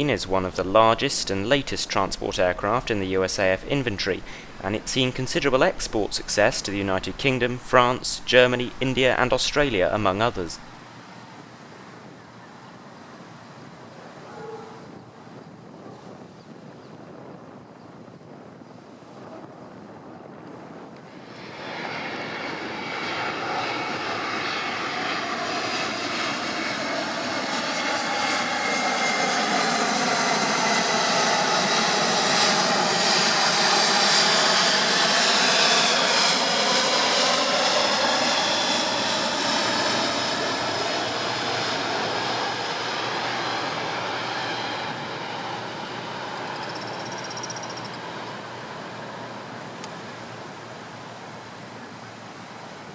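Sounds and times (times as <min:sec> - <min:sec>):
jet aircraft passing: 0:00.0 - 0:16.2, 0:19.2 - 0:52.9.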